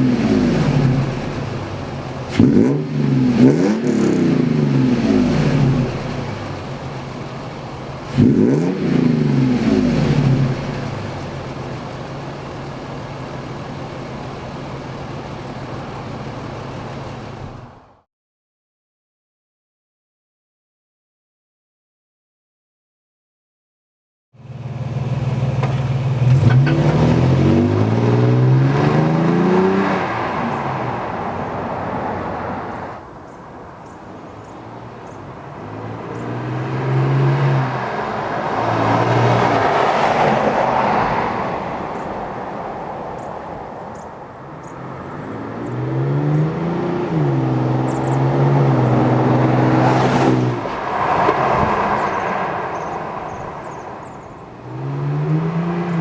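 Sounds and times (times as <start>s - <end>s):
truck engine and exhaust accelerating: 0.0s - 18.0s, 24.4s - 56.0s.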